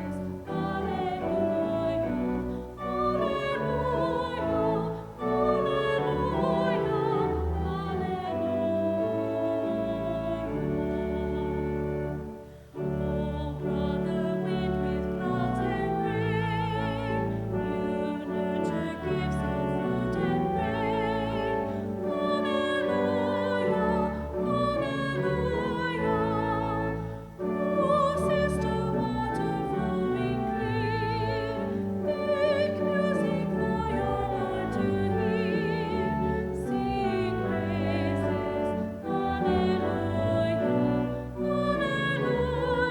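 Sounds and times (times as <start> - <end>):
operatic voice singing with vibrato: 0.0 - 12.1, 12.8 - 42.9
piano accompaniment: 0.0 - 42.9.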